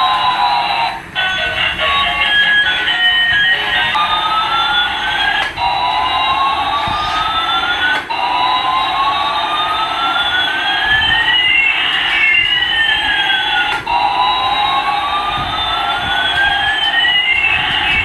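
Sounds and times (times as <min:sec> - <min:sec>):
toy siren sound effect: 0:00.0 - 0:18.0.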